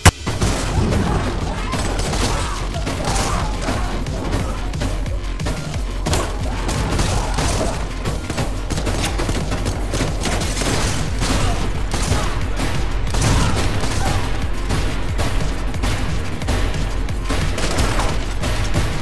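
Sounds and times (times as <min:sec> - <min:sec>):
debris impacts: 0:00.0 - 0:19.0
gunfire volley: 0:00.0 - 0:19.0
music with steady bass: 0:00.0 - 0:19.0
shotgun blasts: 0:00.0 - 0:19.0.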